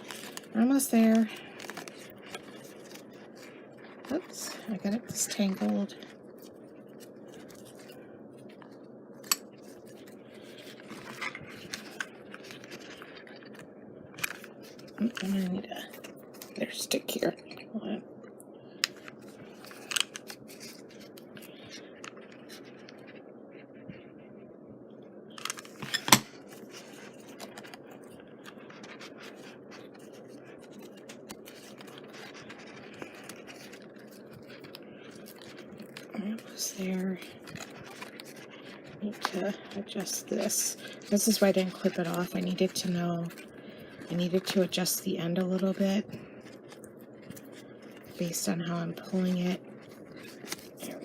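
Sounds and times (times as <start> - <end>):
hands rubbing fabric and paper: 0.0 - 17.4, 25.4 - 51.0
low steady hiss: 0.0 - 51.0.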